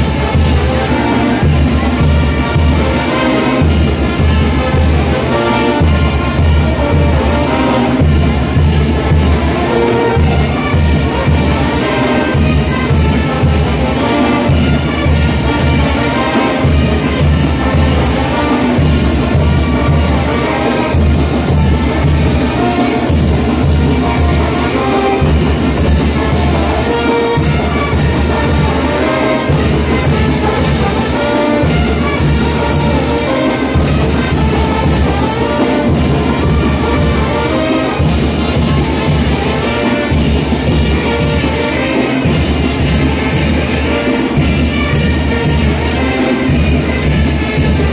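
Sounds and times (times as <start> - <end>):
trumpets and trombones: 0.0 - 47.9.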